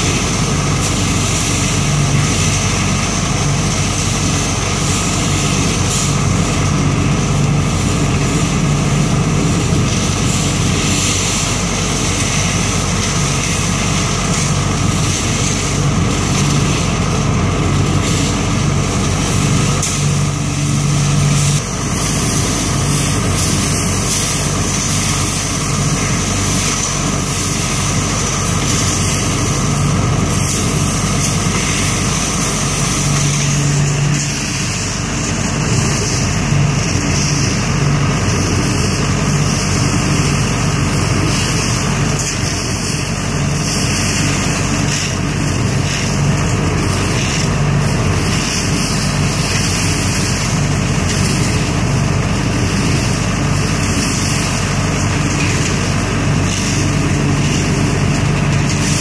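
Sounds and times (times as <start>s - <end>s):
leaf vacuum engine running: 0.0s - 59.0s.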